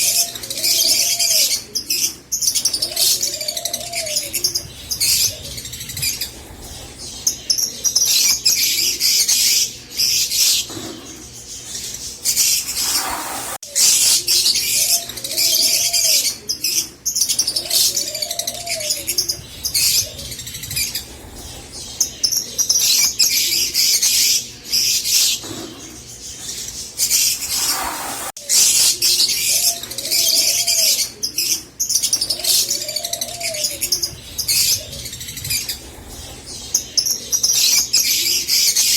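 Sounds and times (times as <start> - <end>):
lovebirds chattering: 0.0 - 38.9.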